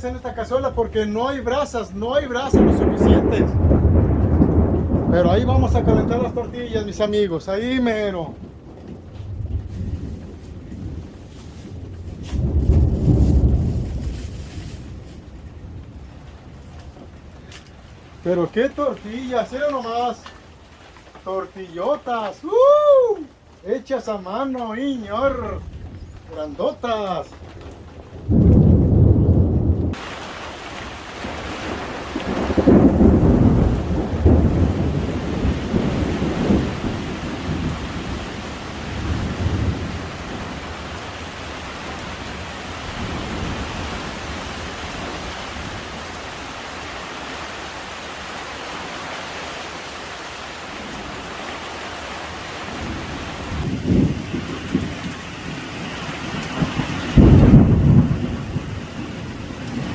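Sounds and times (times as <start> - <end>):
thunder rumbling: 0.0 - 20.6, 21.4 - 48.9, 50.5 - 59.9
heavy rain: 0.0 - 59.9.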